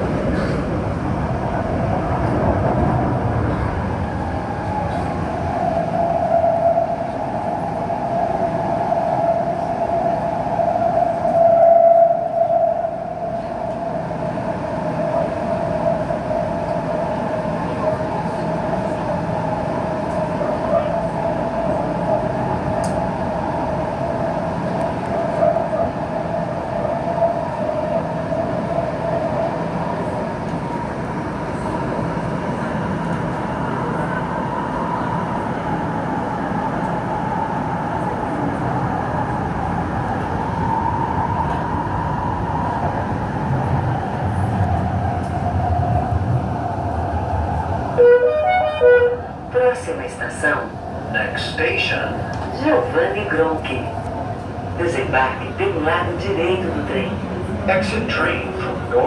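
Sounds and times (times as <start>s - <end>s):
train running with whine: 0.0s - 59.0s.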